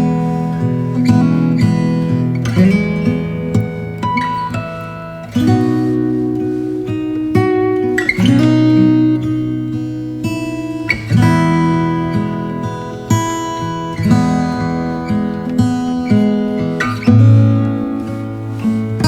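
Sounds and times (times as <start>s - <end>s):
guitar chords ringing: 0.0s - 19.0s.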